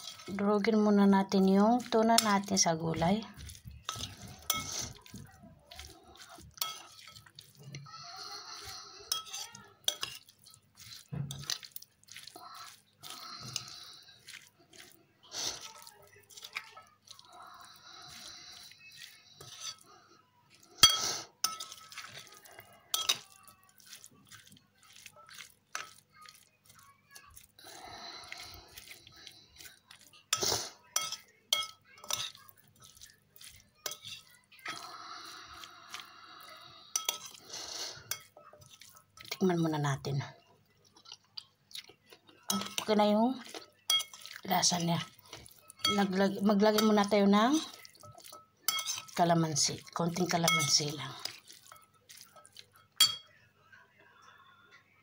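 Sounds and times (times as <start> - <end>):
utensil scraping in a bowl: 0.0 - 19.9, 20.6 - 27.5, 28.2 - 39.6, 42.5 - 53.2.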